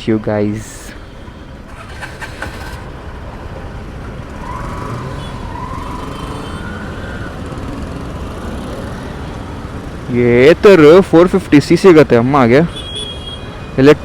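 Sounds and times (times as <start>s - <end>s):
motorcycle road and wind noise: 0.0s - 14.0s.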